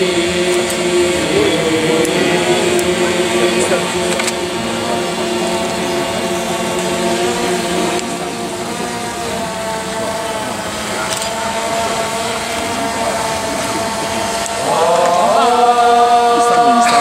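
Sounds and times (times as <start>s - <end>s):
group chanting long notes: 0.0s - 10.6s, 11.6s - 17.0s.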